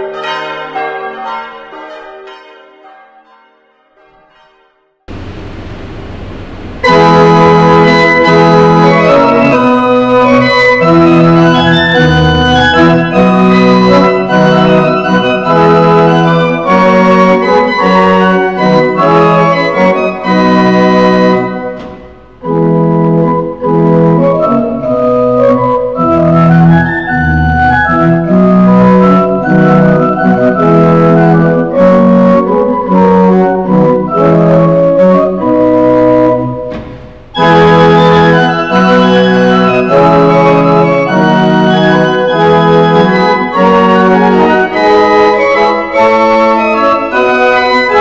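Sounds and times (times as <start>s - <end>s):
pipe organ playing sustained chords: 5.1s - 48.0s.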